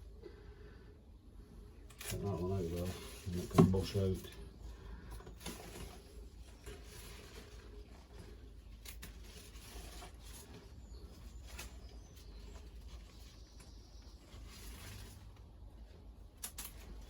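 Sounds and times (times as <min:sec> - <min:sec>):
low steady hum: 0:00.0 - 0:17.0
rustling of plants: 0:01.8 - 0:17.0.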